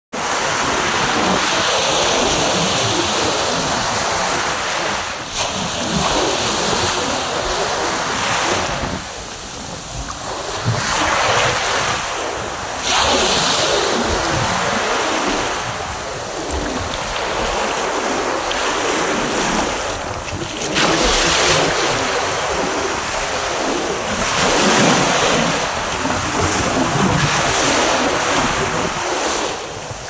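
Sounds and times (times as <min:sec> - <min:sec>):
sea waves washing on beach: 0:00.1 - 0:30.0
wind on microphone: 0:00.1 - 0:30.0.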